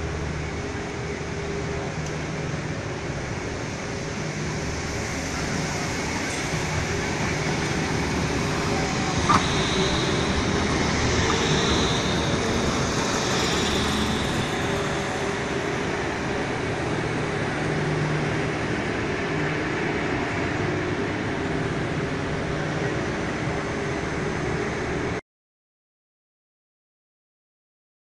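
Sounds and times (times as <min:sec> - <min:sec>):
faint high whine: 0:00.0 - 0:25.2
tram rumbling past on rails: 0:00.0 - 0:25.2.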